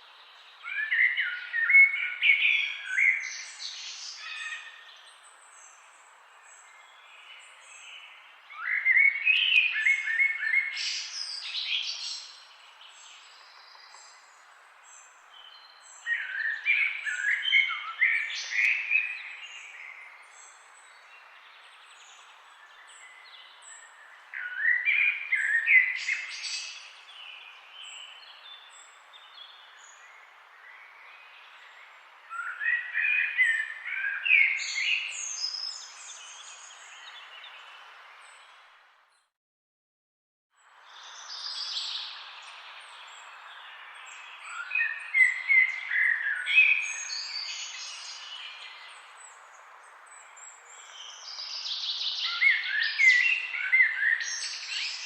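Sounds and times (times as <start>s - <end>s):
songbird singing loud song: 0.0s - 39.3s, 40.6s - 55.0s.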